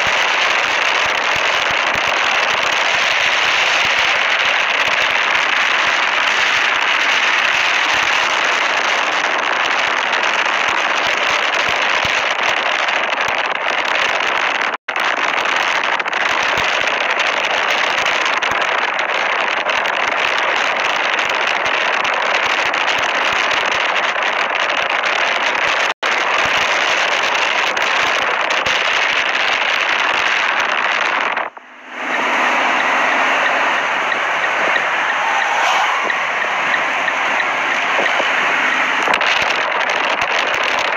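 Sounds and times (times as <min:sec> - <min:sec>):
storm wind on microphone: 0:00.0 - 0:40.9.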